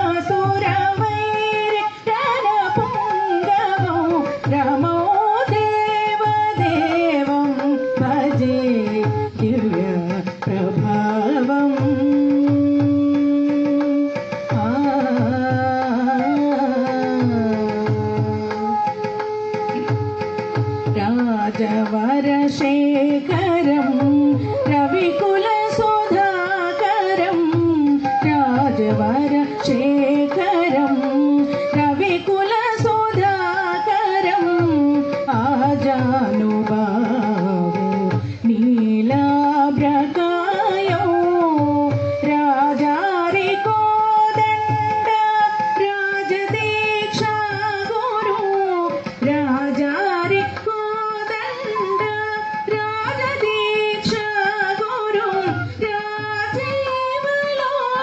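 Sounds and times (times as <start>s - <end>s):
woman singing over loudspeakers: 0.0s - 13.4s, 14.6s - 18.4s, 21.0s - 58.0s
light percussion: 0.0s - 58.0s.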